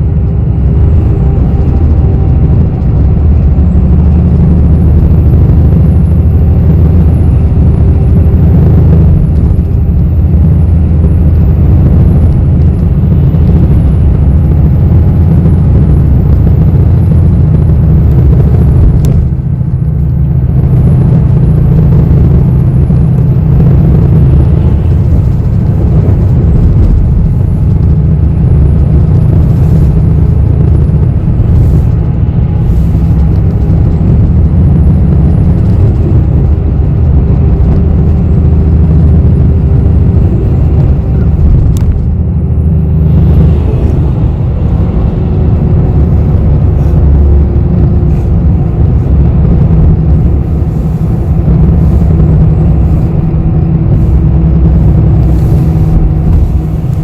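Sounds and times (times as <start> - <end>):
bus engine and road rumble: 0.0 - 57.0
faint high wavering whine: 0.0 - 57.0.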